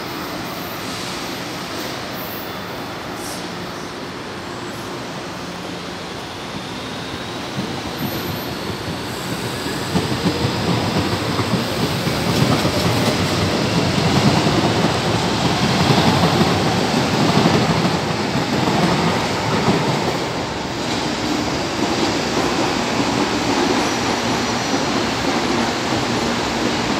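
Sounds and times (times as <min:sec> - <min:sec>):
train wheels rumbling on track: 0:00.0 - 0:26.9.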